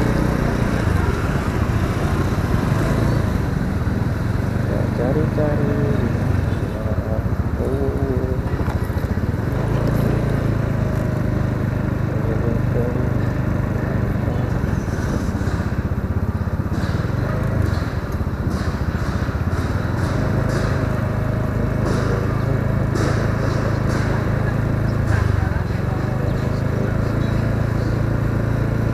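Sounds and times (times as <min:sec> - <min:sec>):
scooter engine running: 0:00.0 - 0:28.9.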